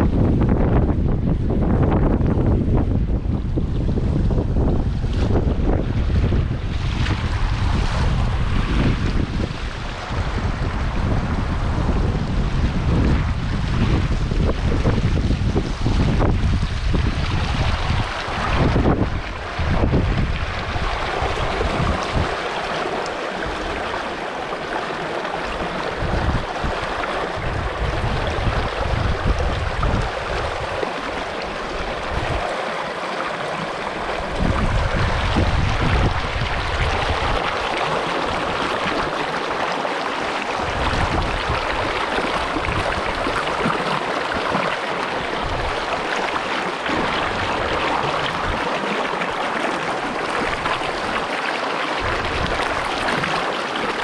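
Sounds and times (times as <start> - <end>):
wind rumble on microphone: 0.0 - 54.0
creek water running: 1.6 - 54.0.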